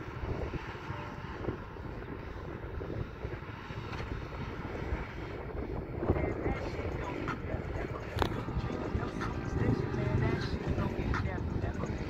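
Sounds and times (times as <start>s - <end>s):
distant utility vehicle engine drone: 0.0s - 12.0s.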